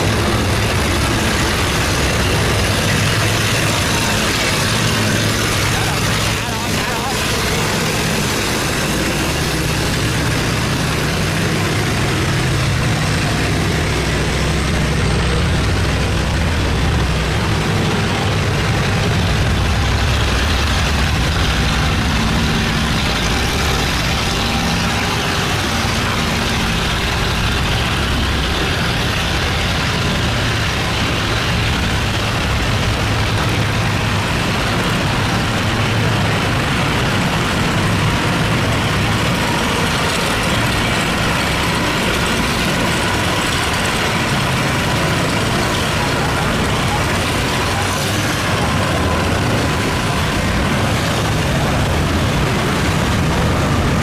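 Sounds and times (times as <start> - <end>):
boat engines humming: 0.0 - 54.0.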